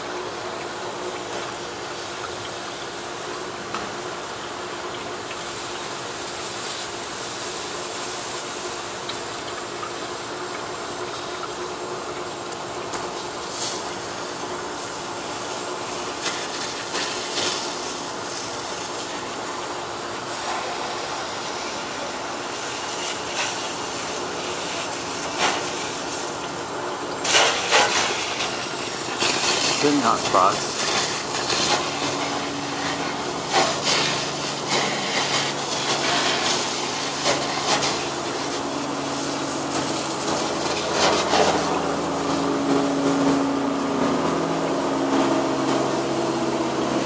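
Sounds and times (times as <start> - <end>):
pump humming: 0.0 - 47.0
water rushing from fire hoses: 0.0 - 47.0.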